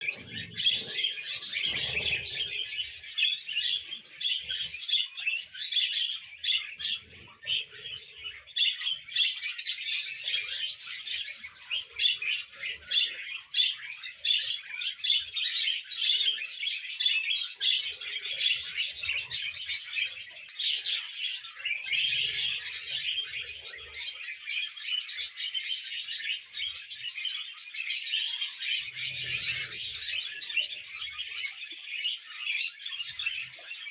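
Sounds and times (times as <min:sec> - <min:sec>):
budgerigar chirping and chattering: 0:00.0 - 0:33.9.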